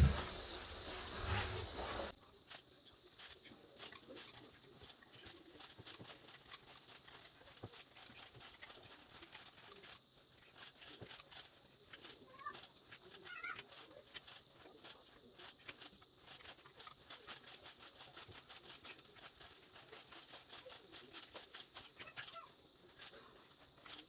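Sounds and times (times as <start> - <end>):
quick irregular clicks: 2.4 - 24.0.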